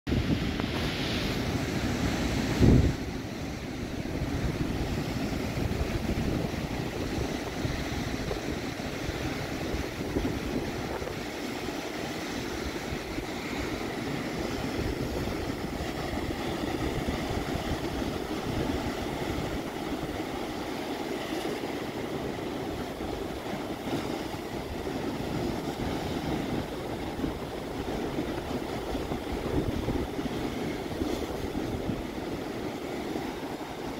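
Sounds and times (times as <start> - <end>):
surf washing over rocks: 0.1 - 33.9
wind rumble on microphone: 0.1 - 33.9.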